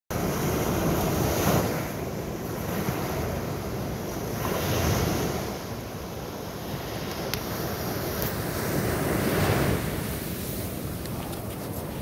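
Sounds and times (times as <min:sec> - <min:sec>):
sea waves breaking on beach: 0:00.1 - 0:12.0
wind buffeting microphone: 0:00.2 - 0:12.0.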